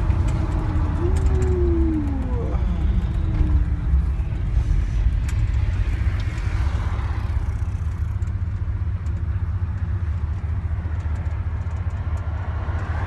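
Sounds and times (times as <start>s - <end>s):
pickup truck engine rumble: 0.0s - 13.0s.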